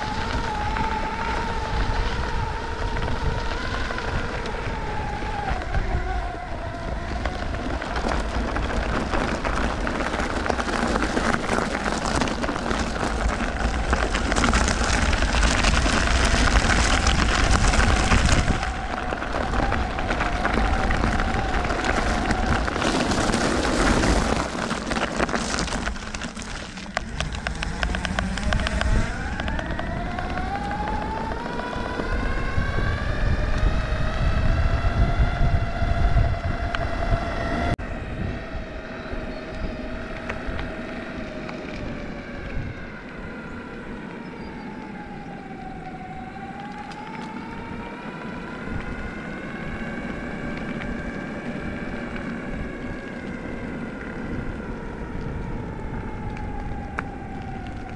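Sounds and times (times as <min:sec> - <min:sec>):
electric skateboard motor whine: 0:00.0 - 0:57.9
low wheel rumble: 0:00.0 - 0:57.9.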